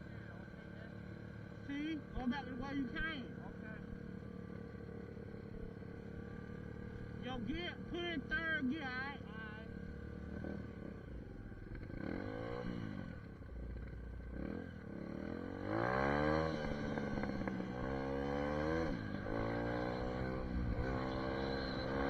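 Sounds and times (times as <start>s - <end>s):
dirt bike engine accelerating: 1.6s - 22.0s.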